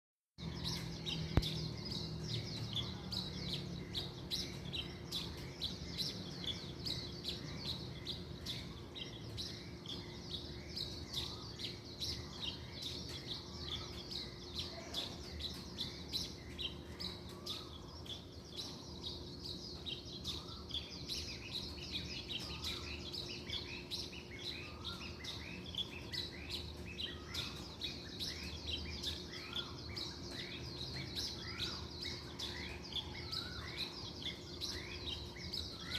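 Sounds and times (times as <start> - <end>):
small birds chirping: 0.4 - 35.9.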